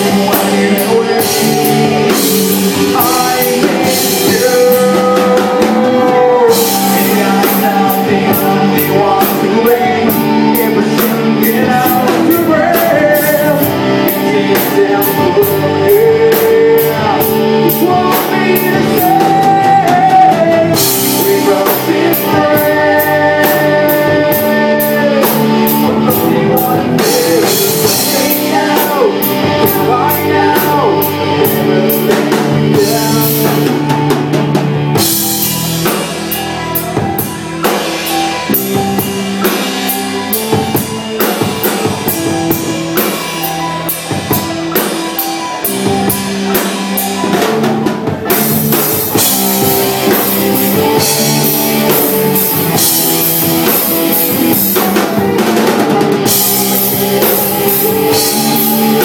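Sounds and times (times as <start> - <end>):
drum kit and cymbals: 0.0 - 59.0
electric guitars: 0.0 - 59.0
keyboard: 0.0 - 59.0.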